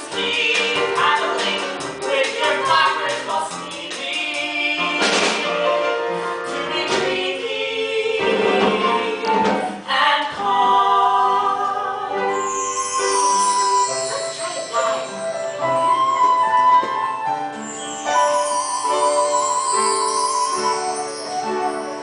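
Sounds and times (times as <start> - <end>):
musical theatre song with instruments: 0.0 - 22.0.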